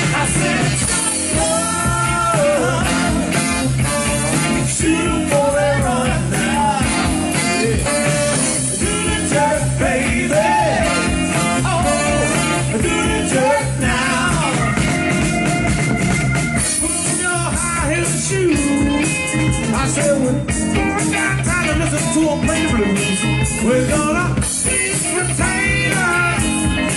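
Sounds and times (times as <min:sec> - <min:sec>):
saxophone lead line: 0:00.0 - 0:26.9
soul band playing: 0:00.0 - 0:26.9.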